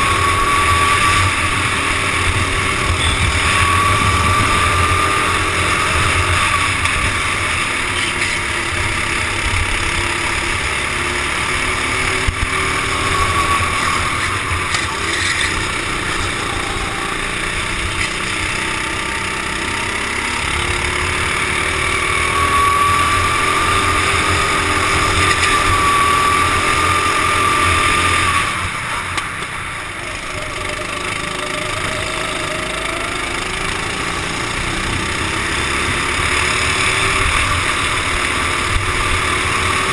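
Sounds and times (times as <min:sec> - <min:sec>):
kart engines racing: 0:00.0 - 0:39.9.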